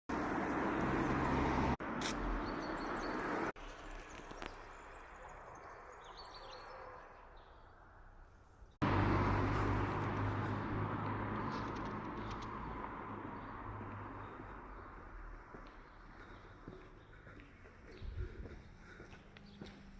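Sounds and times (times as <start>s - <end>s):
birds chirping: 1.9s - 8.8s, 10.2s - 19.9s.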